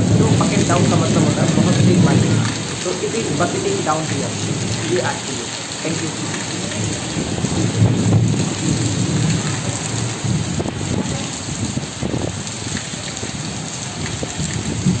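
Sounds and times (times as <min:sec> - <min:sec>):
heavy rain on trees and grass: 0:00.0 - 0:15.0.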